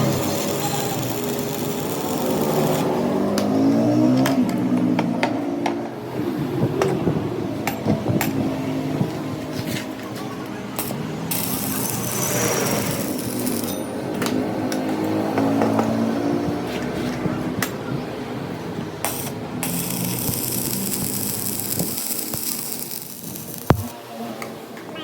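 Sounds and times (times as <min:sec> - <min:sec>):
motor vehicle running: 0:00.0 - 0:23.9.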